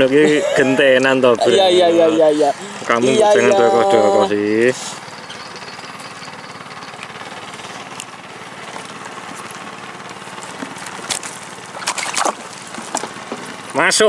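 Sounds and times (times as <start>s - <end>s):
small boat engine running: 0.0s - 14.0s.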